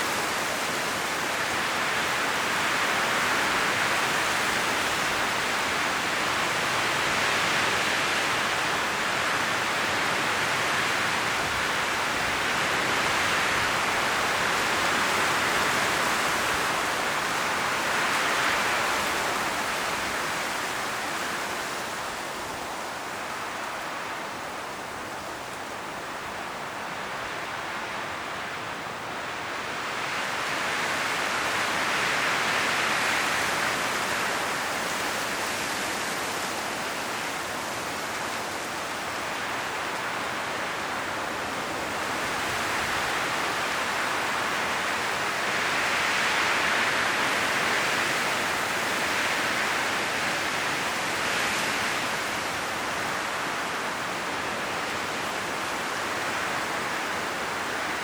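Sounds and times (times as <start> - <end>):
wind rustling tree leaves: 0.0 - 58.0.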